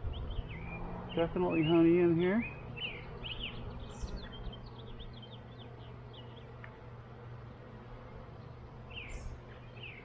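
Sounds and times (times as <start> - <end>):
bird chirping: 0.0 - 6.7, 8.3 - 10.0
honeybees humming: 0.0 - 10.0.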